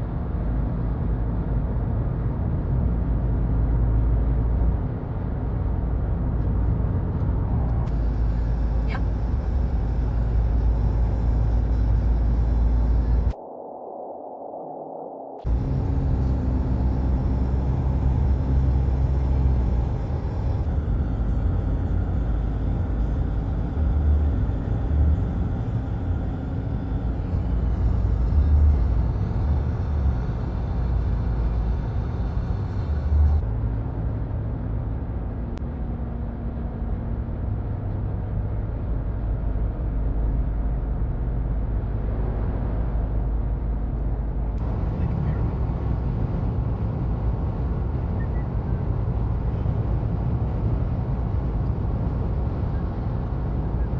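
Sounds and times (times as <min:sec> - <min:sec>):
road and engine rumble: 0:00.0 - 0:13.4, 0:15.4 - 0:53.9.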